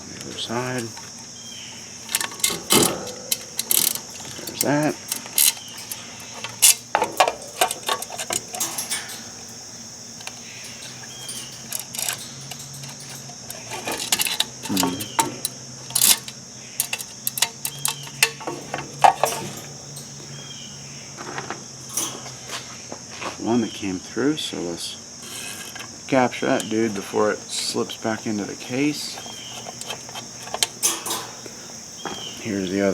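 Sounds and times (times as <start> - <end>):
small metal parts clinking: 0.4 - 21.0, 21.8 - 22.7, 25.2 - 32.9.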